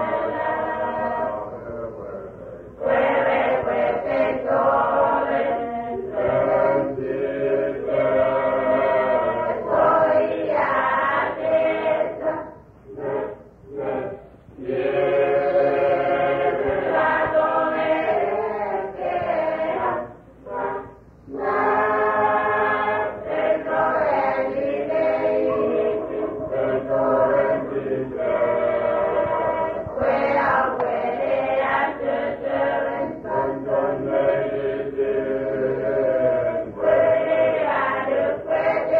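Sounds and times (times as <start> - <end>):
choir chanting: 0.0 - 38.9.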